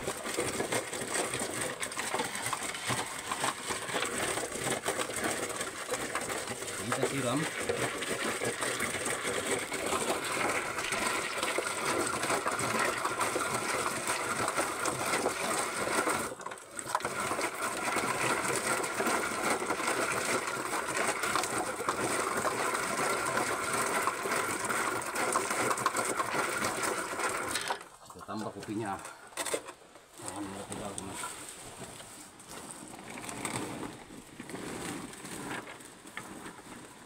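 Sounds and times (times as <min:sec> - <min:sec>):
hand-cranked pulper drum rattling: 0:00.0 - 0:31.4.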